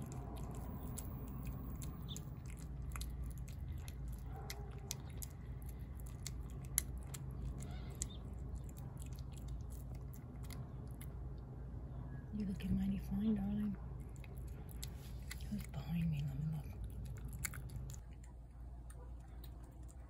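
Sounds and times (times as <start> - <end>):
cat chewing wet food: 0.0 - 11.5, 13.8 - 20.0.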